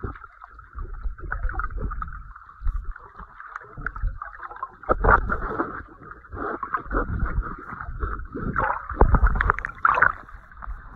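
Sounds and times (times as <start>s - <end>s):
muffled underwater water sloshing: 0.0s - 10.9s.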